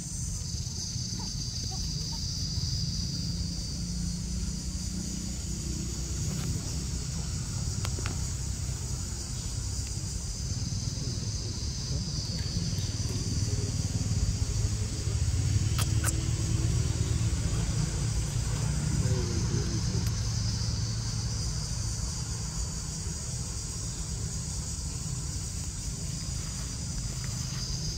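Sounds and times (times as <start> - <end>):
continuous low rumble: 0.0 - 27.9
high-pitched insect chorus: 0.0 - 27.9.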